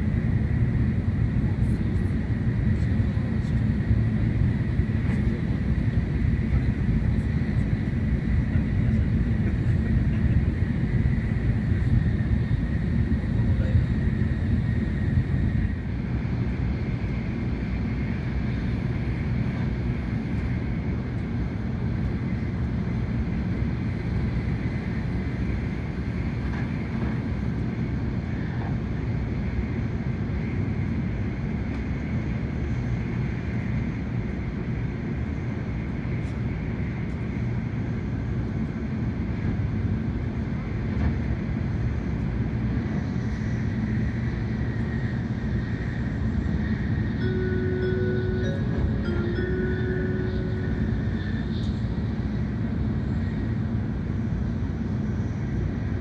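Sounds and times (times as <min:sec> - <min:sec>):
train rumble inside cabin: 0:00.0 - 0:56.0.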